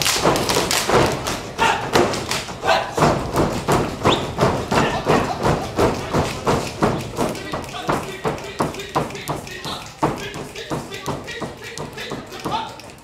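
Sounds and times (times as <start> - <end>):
boots stamping on wooden stage: 0.0 - 13.0.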